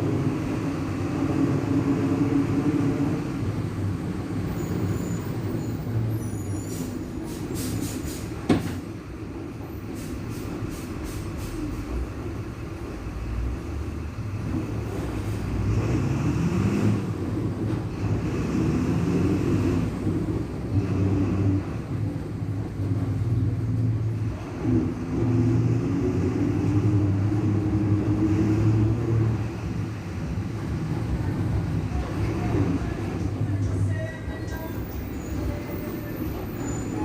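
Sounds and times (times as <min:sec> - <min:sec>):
bus diesel engine drone: 0:00.0 - 0:37.0.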